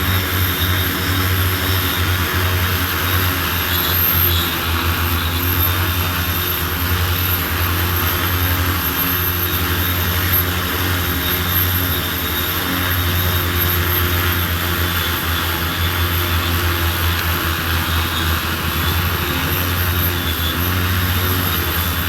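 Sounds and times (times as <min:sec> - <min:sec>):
drone rotors humming: 0:00.0 - 0:22.0.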